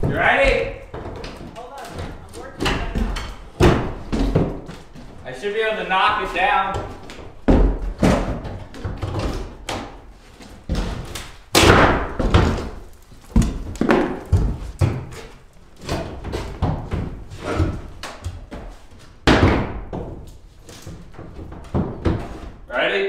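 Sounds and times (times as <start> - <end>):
sledgehammer thuds on plywood: 0.0 - 4.8, 6.7 - 10.0, 10.7 - 22.6.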